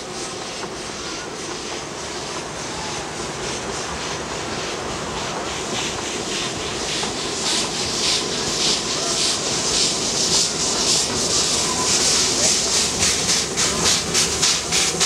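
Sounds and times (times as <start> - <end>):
steam locomotive exhaust chuffing: 0.0 - 15.0
train running rumble: 0.0 - 15.0.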